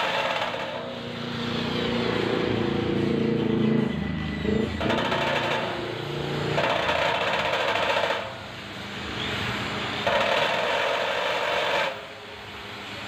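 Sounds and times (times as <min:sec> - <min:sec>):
grinding disc on steel sheet: 0:00.0 - 0:08.4, 0:10.0 - 0:12.1.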